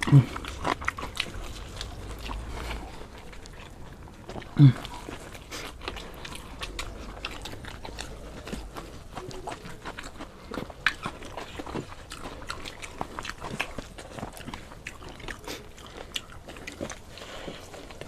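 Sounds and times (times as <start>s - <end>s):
people chewing food: 0.0s - 18.0s.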